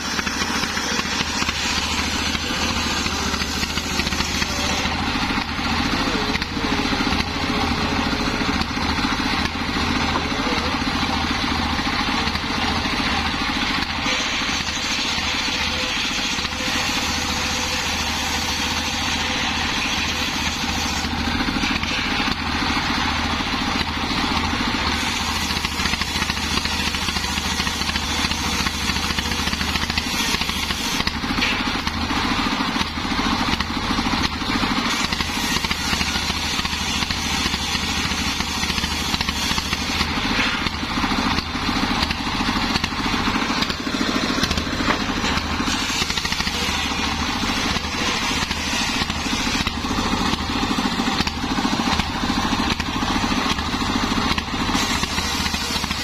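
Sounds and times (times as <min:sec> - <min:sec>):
circular saw cutting wood: 0:00.0 - 0:56.0
diesel engine running: 0:00.0 - 0:56.0.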